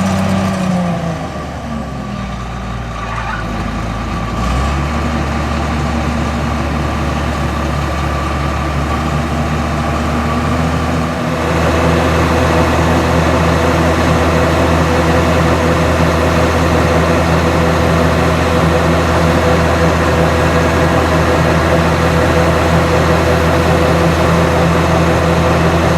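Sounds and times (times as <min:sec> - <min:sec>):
diesel engine running: 0:00.0 - 0:25.9
threshing machinery: 0:03.4 - 0:25.9.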